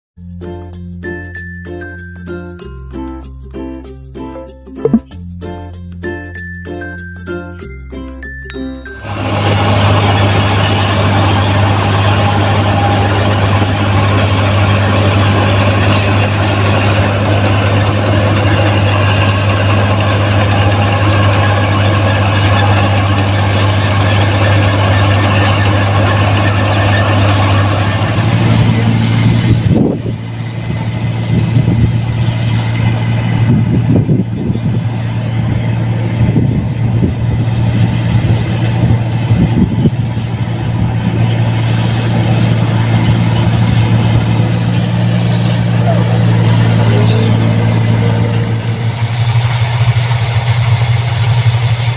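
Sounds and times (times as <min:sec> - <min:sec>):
combine harvester engine drone: 0:08.4 - 0:51.9
whirring machinery clatter: 0:09.0 - 0:51.9
engine knocks: 0:09.2 - 0:51.9.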